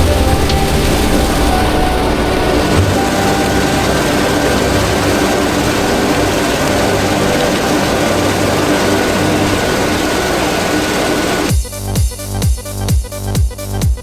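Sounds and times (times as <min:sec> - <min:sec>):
tractor engine droning: 0:00.0 - 0:11.5.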